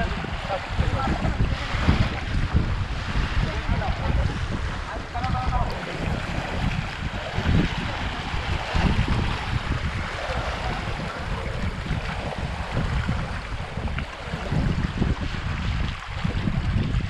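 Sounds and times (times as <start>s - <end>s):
small waves lapping on shore: 0.0s - 17.0s
wind gusting on microphone: 0.0s - 17.0s.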